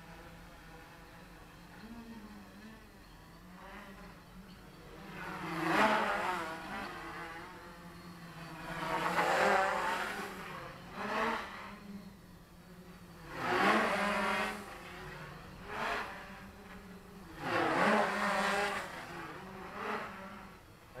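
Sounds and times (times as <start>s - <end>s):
quadcopter buzzing: 0.0s - 21.0s.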